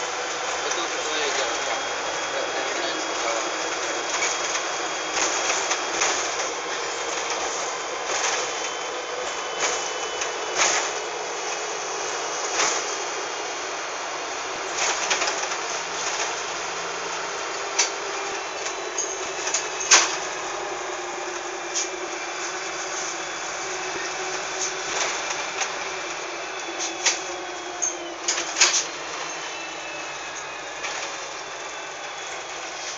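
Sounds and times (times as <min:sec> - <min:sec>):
bus interior running noise: 0:00.0 - 0:32.9.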